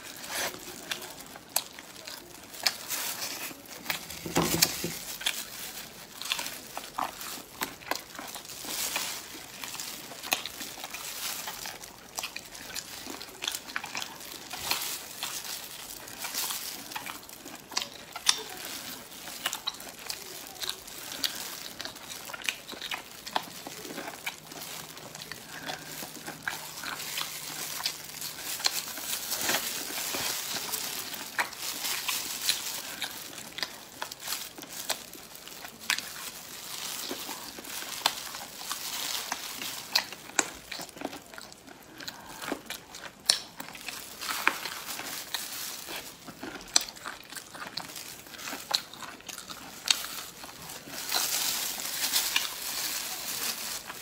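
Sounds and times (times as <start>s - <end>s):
close-up chewing meat: 0.0s - 54.0s
plastic gloves crinkling: 0.0s - 54.0s.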